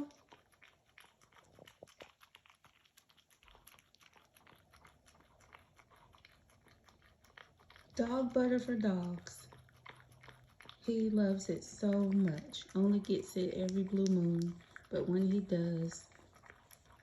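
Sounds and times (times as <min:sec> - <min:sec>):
puppy licking and smacking: 0:00.0 - 0:17.0.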